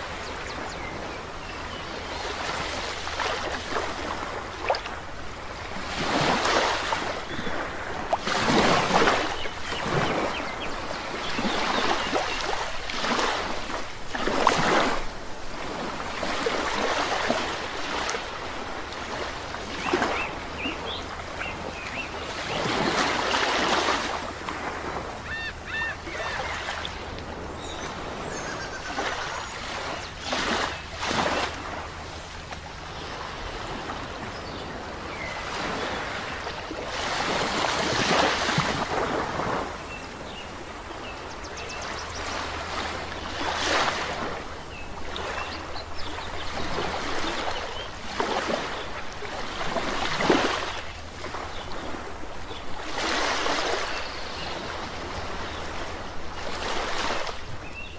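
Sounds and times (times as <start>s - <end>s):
sea waves washing onto shore: 0.0s - 57.8s.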